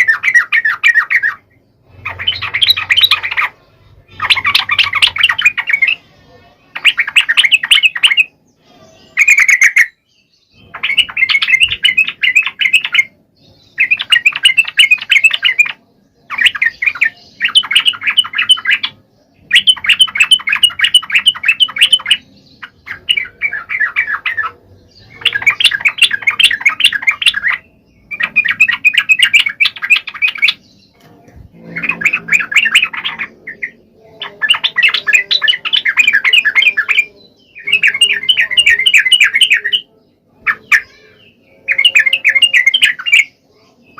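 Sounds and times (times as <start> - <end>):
bulbul chattering song: 0.0 - 43.9.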